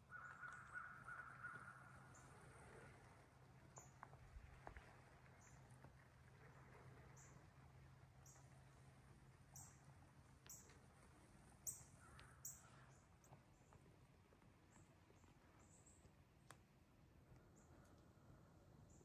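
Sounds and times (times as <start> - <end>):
faint outdoor ambience: 0.0 - 19.0.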